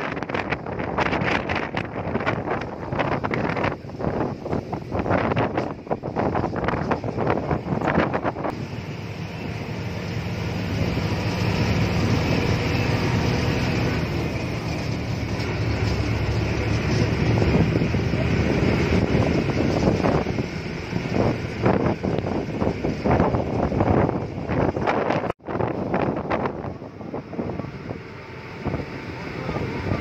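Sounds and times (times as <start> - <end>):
wind buffeting microphone: 0.0 - 8.7, 10.0 - 30.0
vehicle engine and road noise: 0.0 - 30.0.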